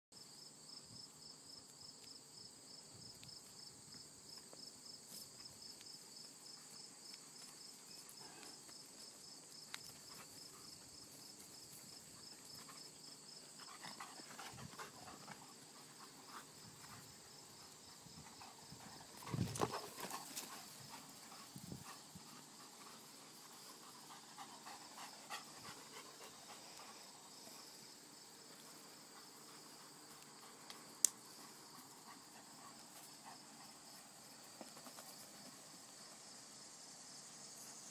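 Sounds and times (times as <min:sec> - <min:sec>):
crickets chirping: 0:00.2 - 0:37.9.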